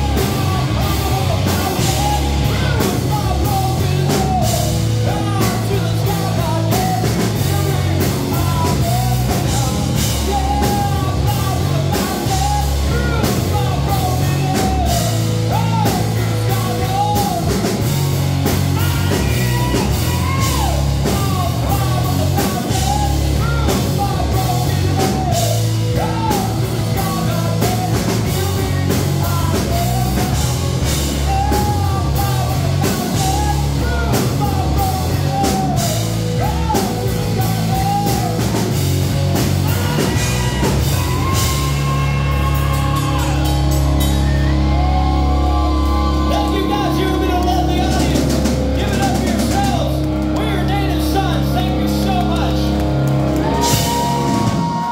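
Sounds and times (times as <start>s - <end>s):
bass guitar: 0.0s - 54.9s
drum kit: 0.0s - 54.9s
electric guitar: 0.0s - 54.9s
man singing: 0.0s - 54.9s.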